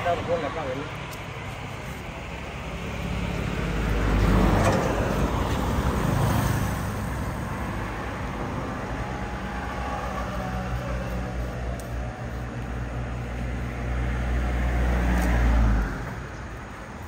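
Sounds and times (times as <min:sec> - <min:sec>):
low traffic hum: 0:00.0 - 0:17.0
vehicle passing close by: 0:01.7 - 0:17.0.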